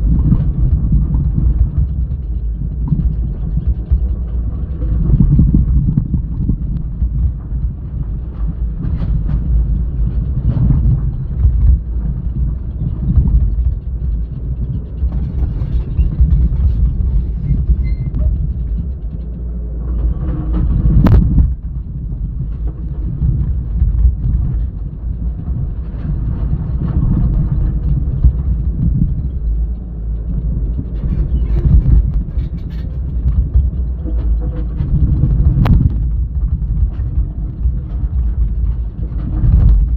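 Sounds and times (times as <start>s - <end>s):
excavator diesel engine rumble: 0.0s - 39.9s.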